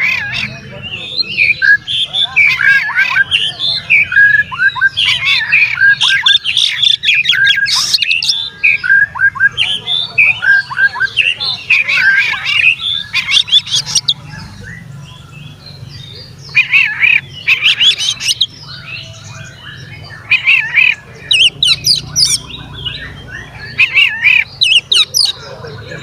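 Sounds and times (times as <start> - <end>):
magpie-robin singing: 0.0 - 26.0.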